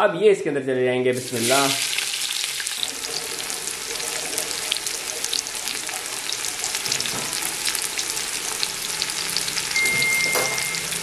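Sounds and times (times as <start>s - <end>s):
onions sizzling in hot oil: 1.2s - 11.0s.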